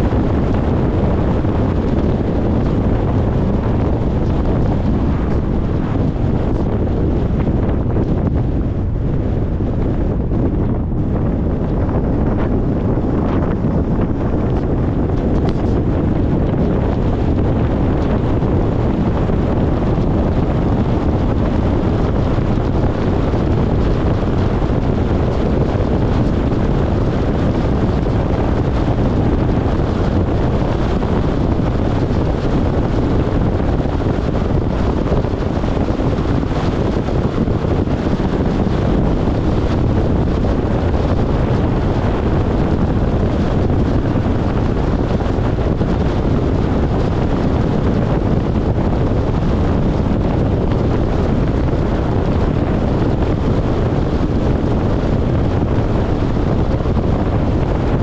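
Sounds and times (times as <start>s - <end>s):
vehicle road noise: 0.0s - 58.0s
wind rumbling on microphone: 0.0s - 58.0s.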